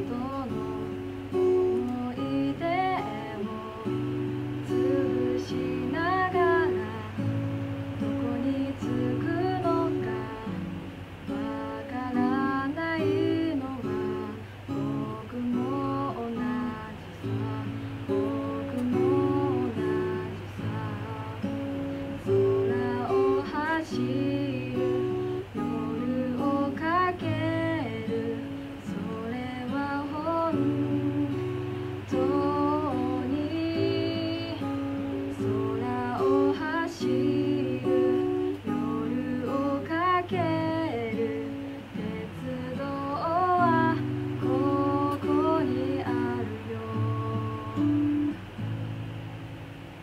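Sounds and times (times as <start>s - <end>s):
person singing: 0.0s - 48.5s
acoustic guitar: 0.0s - 50.0s.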